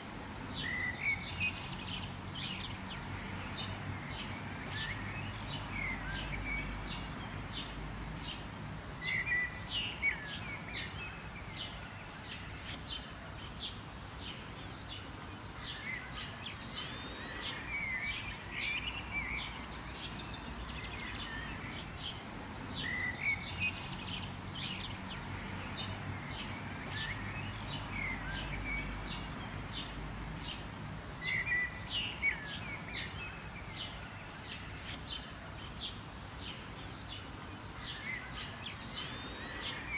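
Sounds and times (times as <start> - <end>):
birds chirping: 0.0 - 39.9
bird warbling song: 0.5 - 39.9.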